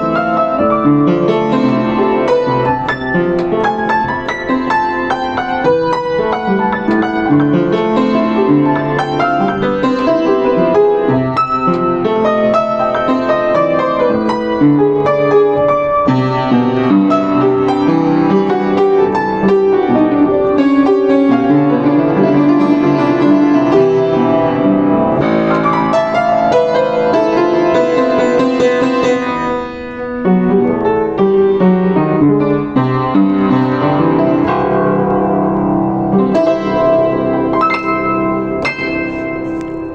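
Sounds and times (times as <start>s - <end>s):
romantic piano piece: 0.0s - 39.9s.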